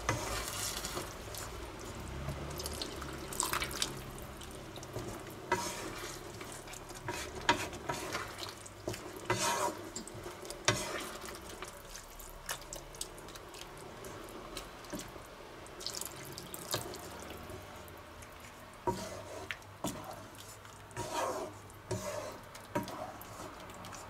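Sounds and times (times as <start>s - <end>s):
spatula scraping sauce in pan: 0.0s - 15.2s, 18.3s - 24.0s.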